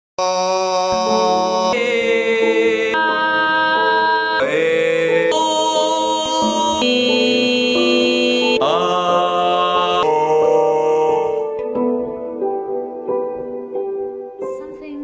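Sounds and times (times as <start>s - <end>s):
sustained chord music: 0.9s - 14.9s.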